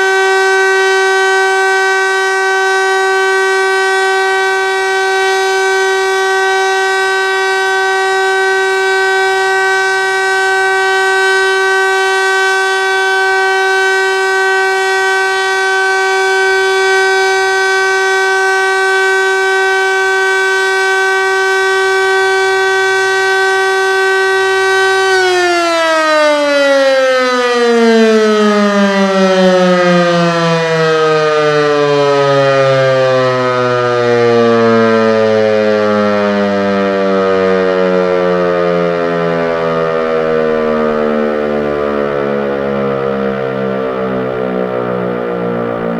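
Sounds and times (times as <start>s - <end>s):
motor siren steady tone: 0.0s - 45.9s.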